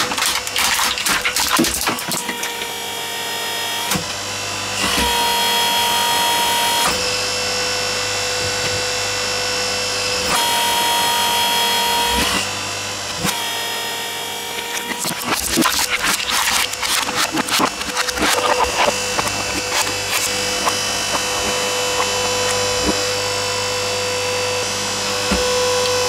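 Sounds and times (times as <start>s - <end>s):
hydraulic press pump whining: 0.0s - 26.0s.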